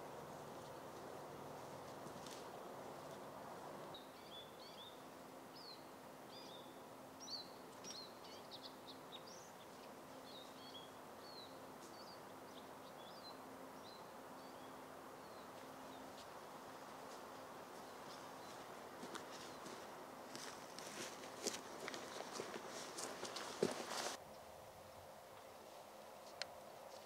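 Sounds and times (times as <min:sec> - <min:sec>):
small birds chirping: 0:00.0 - 0:24.2
faint hiss and hum: 0:00.0 - 0:27.0.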